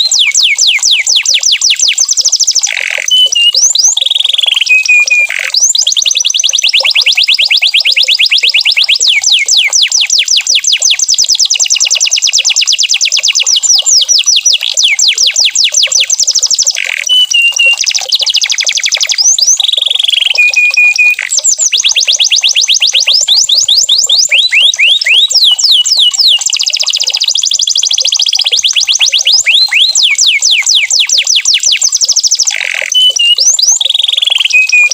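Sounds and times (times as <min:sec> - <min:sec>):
canary singing fast trills: 0:00.0 - 0:34.9.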